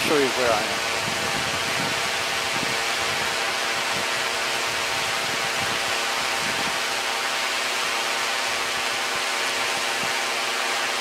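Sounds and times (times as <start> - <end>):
drone motors whirring: 0.0 - 11.0.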